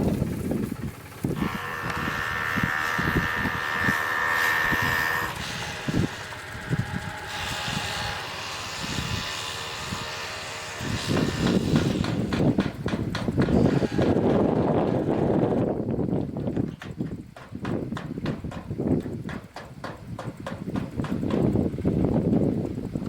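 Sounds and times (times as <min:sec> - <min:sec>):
farm machinery high whine: 0:00.0 - 0:23.0.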